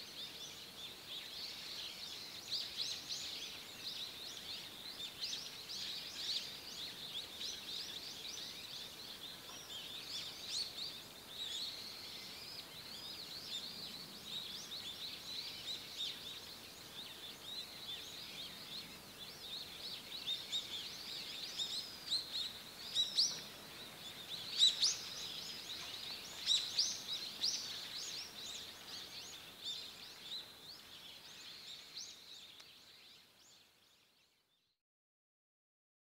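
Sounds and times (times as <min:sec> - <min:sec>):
faint forest ambience hiss: 0:00.0 - 0:34.8
small birds chirping: 0:00.0 - 0:34.8.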